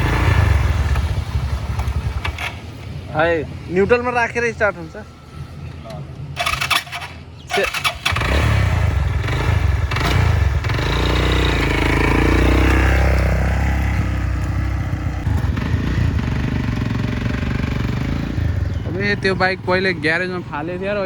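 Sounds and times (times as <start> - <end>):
motorcycle engine starting and revving: 0.0 - 21.0.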